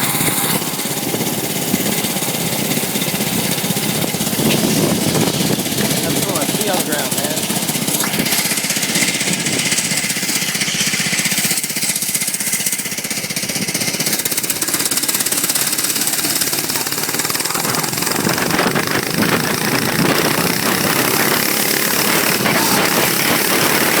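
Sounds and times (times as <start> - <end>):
mini bike engine running: 0.0 - 24.0.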